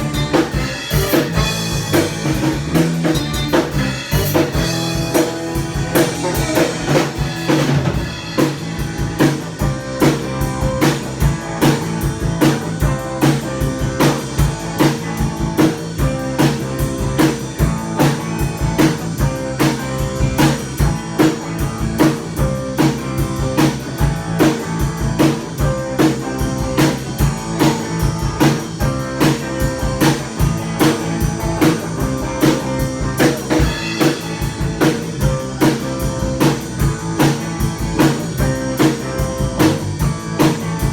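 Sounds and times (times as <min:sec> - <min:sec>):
drum kit beat: 0:00.0 - 0:40.9
guitar: 0:00.0 - 0:40.9.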